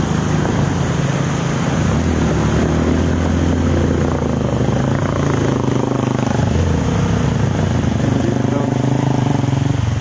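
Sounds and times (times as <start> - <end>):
motorcycle engine running: 0.0 - 10.0
water spray splashing: 0.0 - 10.0.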